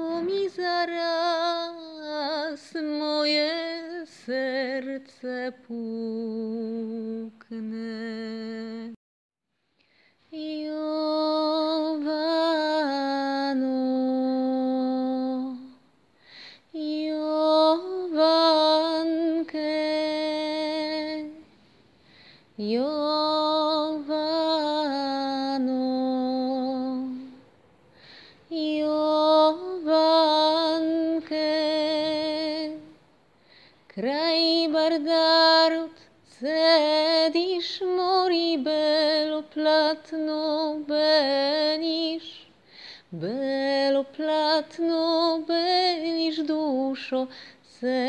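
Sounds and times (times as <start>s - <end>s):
woman singing with vibrato: 0.0s - 9.0s, 10.3s - 15.8s, 16.7s - 21.5s, 22.6s - 27.4s, 28.4s - 33.0s, 33.9s - 42.5s, 43.1s - 48.0s.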